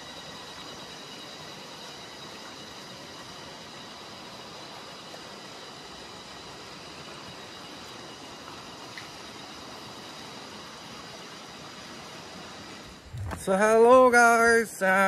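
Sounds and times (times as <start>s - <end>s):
mountain stream rushing: 1.4s - 15.0s.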